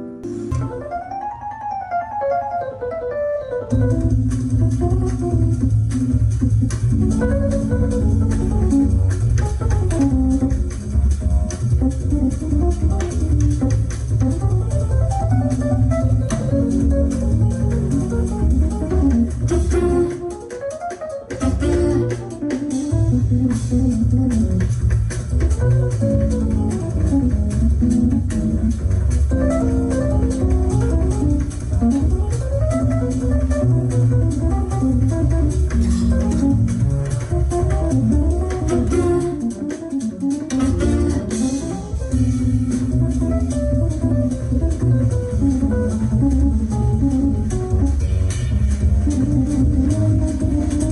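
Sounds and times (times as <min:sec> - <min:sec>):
deep bass: 0:03.7 - 0:20.2, 0:21.4 - 0:39.6, 0:40.4 - 0:50.9
instrumental dance music: 0:03.7 - 0:50.9
ticking beat: 0:03.7 - 0:50.9.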